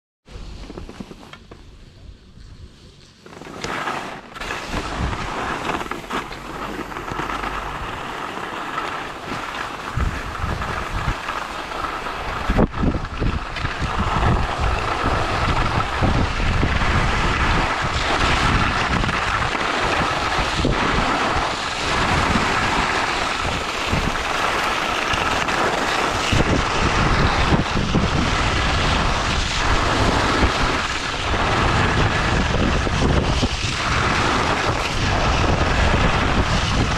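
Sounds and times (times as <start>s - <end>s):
skis sliding over snow: 0.3s - 36.9s
wind rumbling on microphone: 0.3s - 36.9s.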